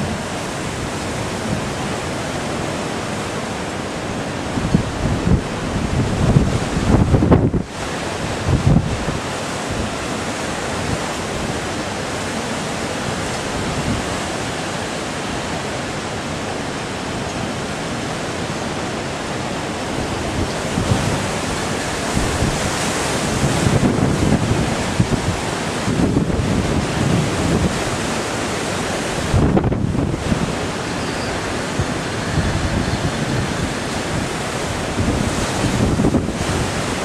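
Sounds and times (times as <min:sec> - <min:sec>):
strong wind: 0:00.0 - 0:37.0
surf breaking heavily: 0:00.0 - 0:37.0
wind gusting on microphone: 0:00.0 - 0:37.0.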